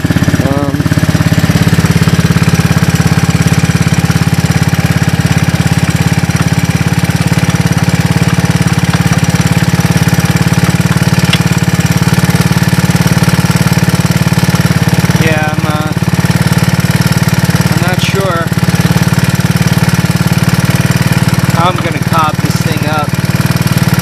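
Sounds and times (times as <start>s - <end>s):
atv engine idling: 0.0s - 24.0s.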